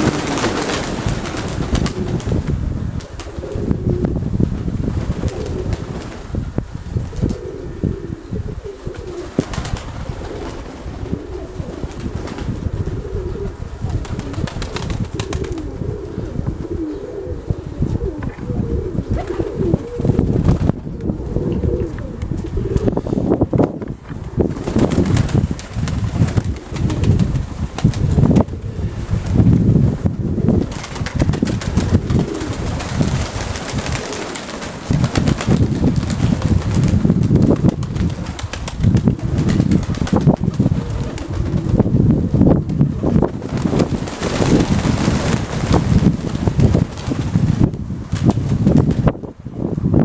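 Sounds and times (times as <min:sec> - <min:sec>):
wings flapping: 0:00.0 - 0:03.7, 0:04.8 - 0:07.5, 0:08.8 - 0:16.2, 0:17.9 - 0:20.8, 0:23.8 - 0:29.6, 0:30.5 - 0:49.2
pigeons cooing: 0:00.0 - 0:04.2, 0:05.1 - 0:23.5, 0:26.0 - 0:29.1, 0:30.1 - 0:45.8
wind buffeting microphone: 0:00.0 - 0:50.0.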